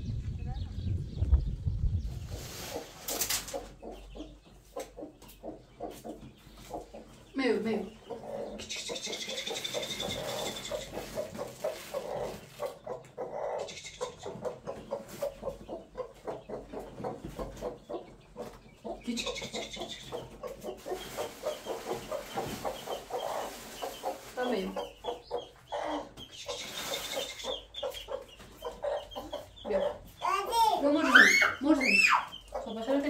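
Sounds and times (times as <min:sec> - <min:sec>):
chickens clucking: 0:00.3 - 0:33.0.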